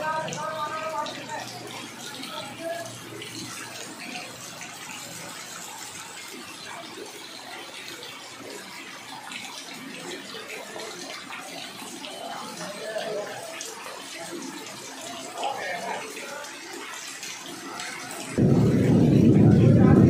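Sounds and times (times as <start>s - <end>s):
rain splashing on floodwater: 0.0s - 20.0s.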